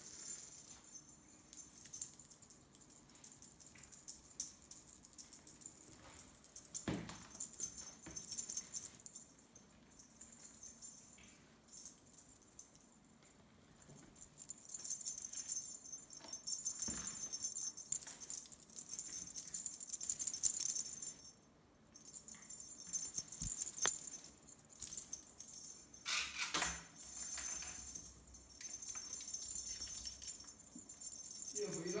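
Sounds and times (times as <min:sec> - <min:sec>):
small bells jingling: 0:00.0 - 0:13.0, 0:13.8 - 0:32.0.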